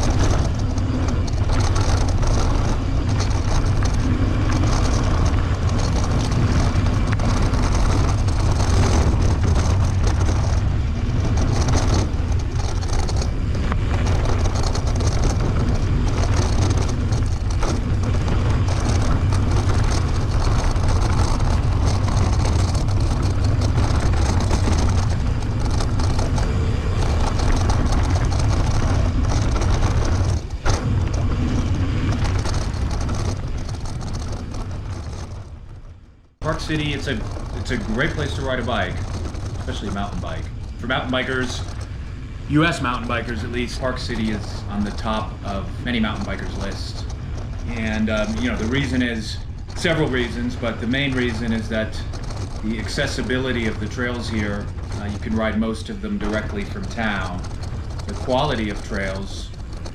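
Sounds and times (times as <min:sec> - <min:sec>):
bike tyres rolling over dirt: 0:00.0 - 0:59.9
wind on microphone: 0:00.0 - 0:59.9.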